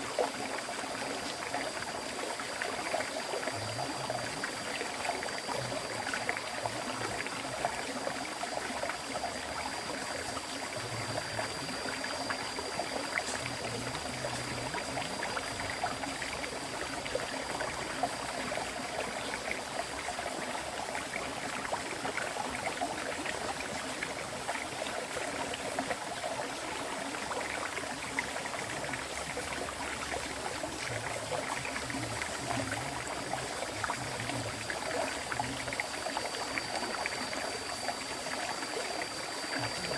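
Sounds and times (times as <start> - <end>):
river stream flowing: 0.0 - 39.9.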